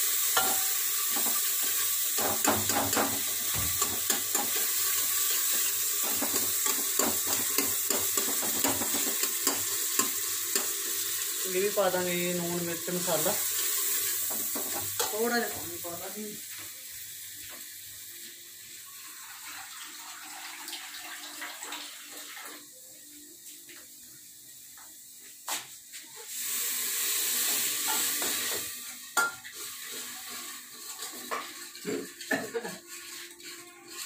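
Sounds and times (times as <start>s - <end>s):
masala sizzling: 0.0s - 34.0s
water hissing in hot pot: 0.0s - 34.0s.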